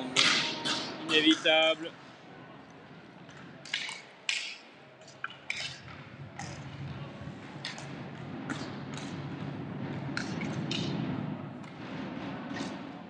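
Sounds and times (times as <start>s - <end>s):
low murmur from rink: 0.0s - 13.0s
hockey sticks clacking on puck: 0.1s - 1.7s, 3.3s - 6.9s, 7.6s - 13.0s.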